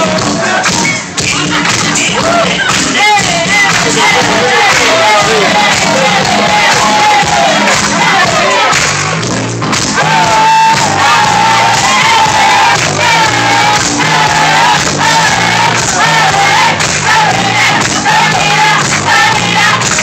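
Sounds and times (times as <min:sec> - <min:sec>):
crowd noise: 0:00.0 - 0:20.0
loud dance music: 0:00.0 - 0:20.0.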